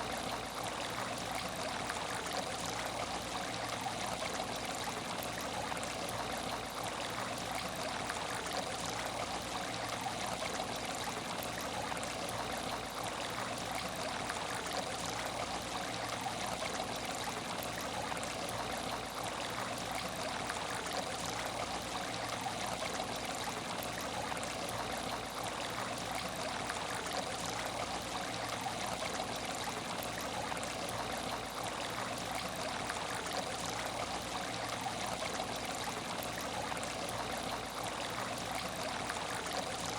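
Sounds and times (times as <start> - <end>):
water trickling in aquarium: 0.0 - 39.9.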